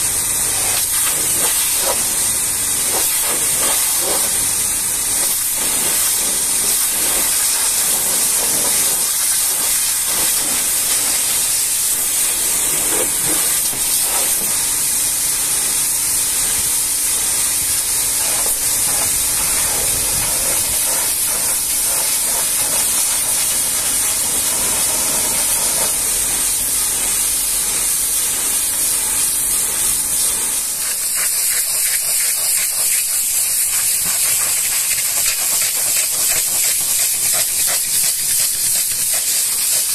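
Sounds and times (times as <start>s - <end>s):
pressure washer jet hissing: 0.0s - 39.9s.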